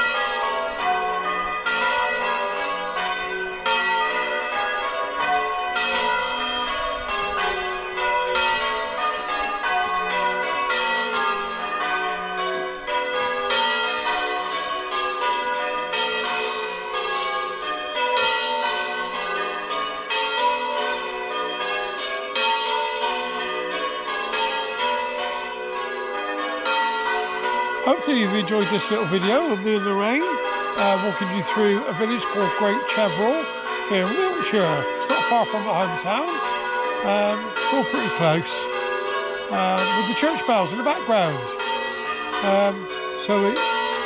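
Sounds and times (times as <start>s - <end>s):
church bells ringing: 0.0s - 44.0s.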